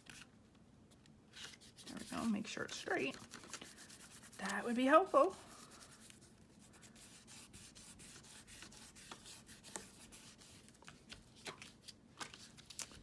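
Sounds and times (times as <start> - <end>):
paper rubbing and rustling: 1.3 - 13.0.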